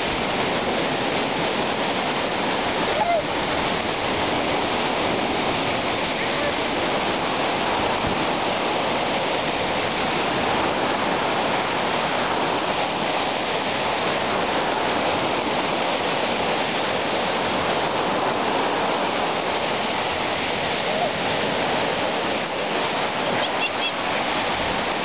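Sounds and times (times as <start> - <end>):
small waves breaking on beach: 0.0 - 25.0.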